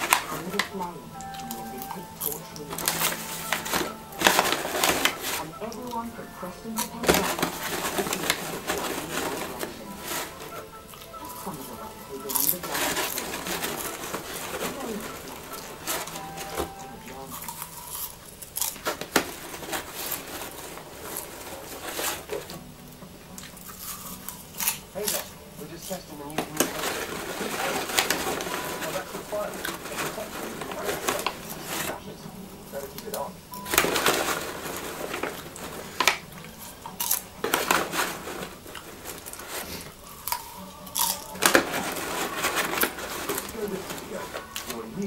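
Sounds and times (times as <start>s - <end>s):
popcorn bag rustling: 0.0s - 45.0s
popcorn crunching: 0.0s - 45.0s.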